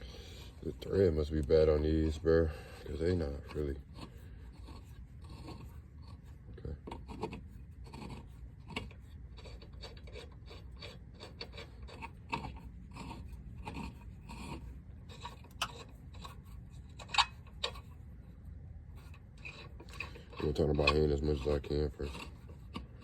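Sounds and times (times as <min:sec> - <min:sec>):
lug nuts scraping on wheel studs: 0:00.0 - 0:23.0.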